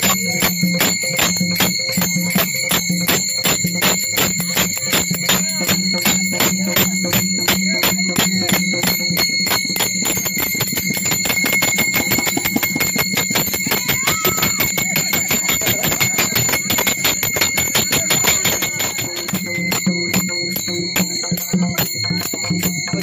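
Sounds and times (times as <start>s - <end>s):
hand cymbals clashing: 0.0s - 23.0s.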